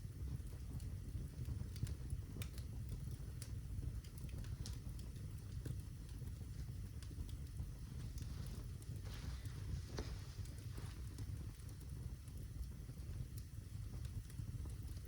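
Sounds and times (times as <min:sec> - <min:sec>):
fire crackling and popping: 0:00.0 - 0:15.0
low steady rumble: 0:00.0 - 0:15.0.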